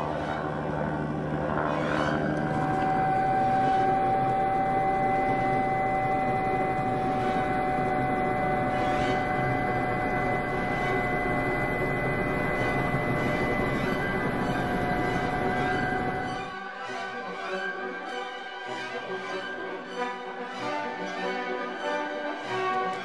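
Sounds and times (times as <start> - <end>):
high whine: 0.0 - 18.6
helicopter engine and rotor: 0.0 - 21.4.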